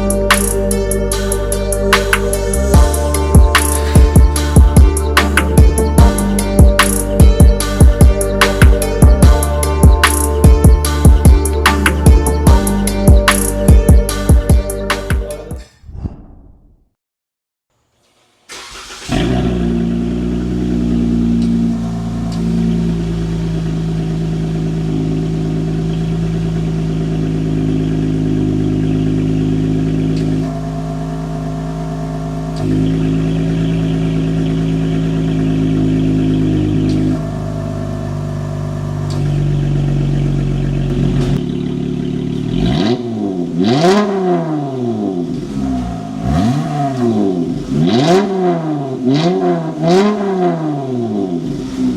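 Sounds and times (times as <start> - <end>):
car engine revving: 0.0 - 15.6, 18.1 - 51.9
car engine starting and idling: 0.0 - 15.6, 17.9 - 51.9.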